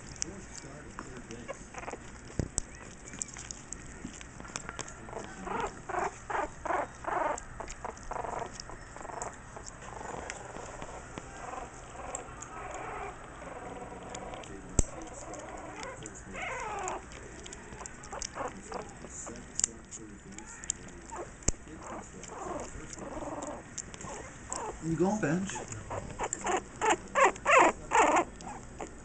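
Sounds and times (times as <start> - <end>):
faint clicks and pattering: 0.0 - 29.0
puppies whimpering and squeaking: 0.0 - 29.0.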